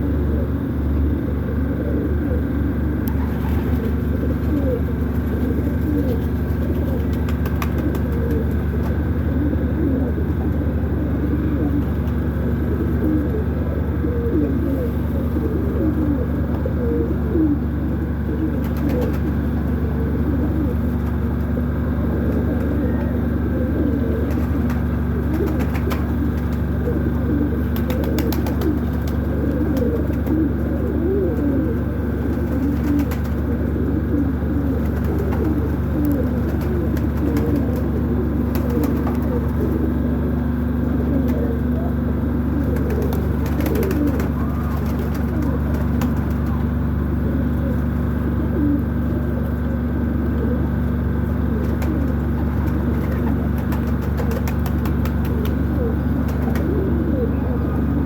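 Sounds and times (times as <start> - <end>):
low mechanical hum: 0.0 - 58.0
pigeons cooing: 0.0 - 58.0.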